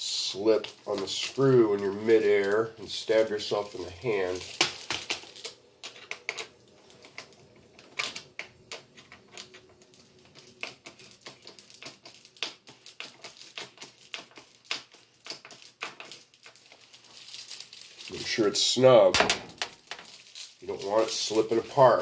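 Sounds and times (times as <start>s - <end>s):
foil crinkling: 0.0s - 22.0s.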